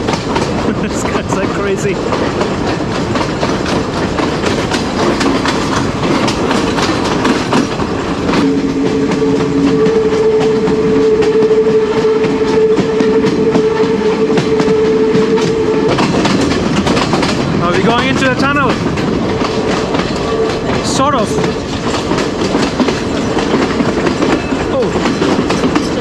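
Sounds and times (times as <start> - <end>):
train rumble and rattle: 0.0 - 26.0
train wheels clicking over rail joints: 0.0 - 26.0.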